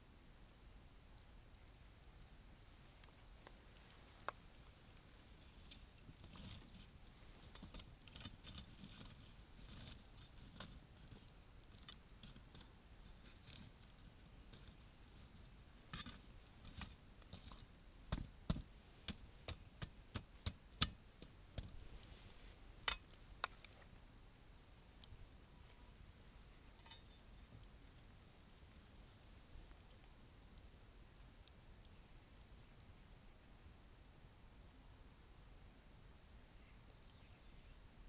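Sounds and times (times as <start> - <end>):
campfire crackling and popping: 0.2 - 37.1.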